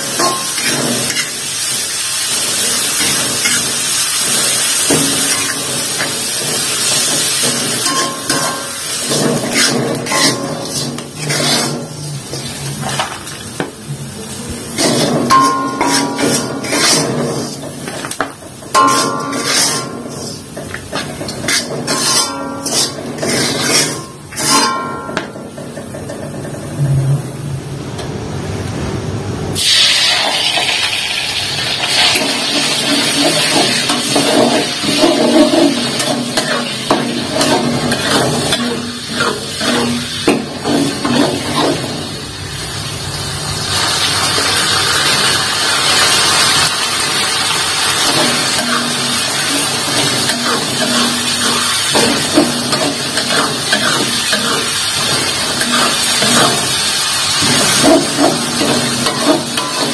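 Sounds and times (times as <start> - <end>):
metal spatula scraping wok: 0.0 - 13.6, 14.7 - 27.3, 31.8 - 42.2, 43.9 - 59.9
spice paste sizzling in oil: 0.0 - 13.6, 14.6 - 24.6, 29.6 - 59.9.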